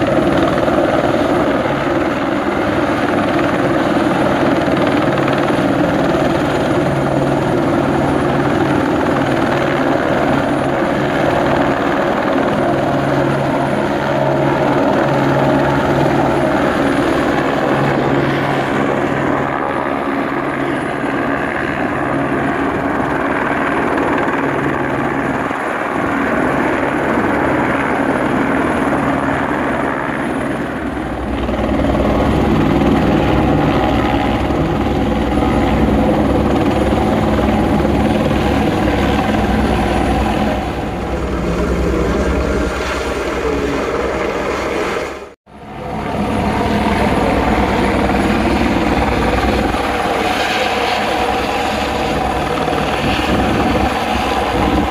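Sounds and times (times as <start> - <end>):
helicopter hovering: 0.0 - 54.9.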